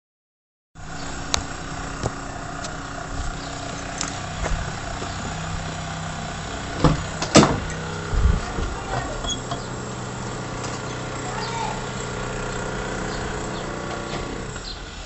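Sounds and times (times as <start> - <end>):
car engine rumbling: 0.8 - 15.0.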